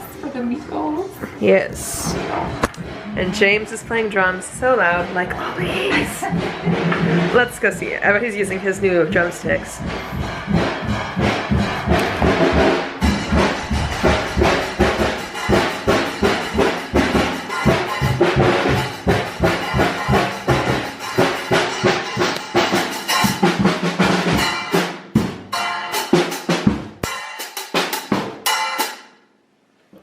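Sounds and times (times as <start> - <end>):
drum kit played fast: 1.4 - 29.0.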